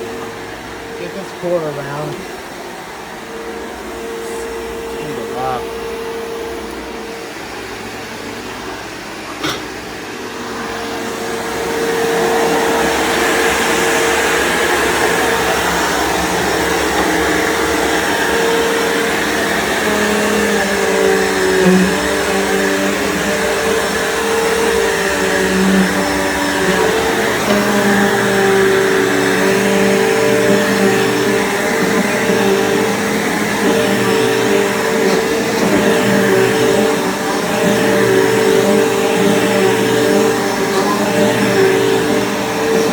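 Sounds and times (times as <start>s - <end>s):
vacuum cleaner motor hum: 0.0s - 42.9s.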